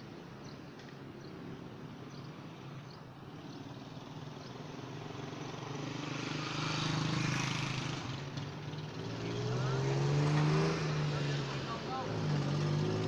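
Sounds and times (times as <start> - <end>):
vehicle passing with road noise: 0.0 - 13.0.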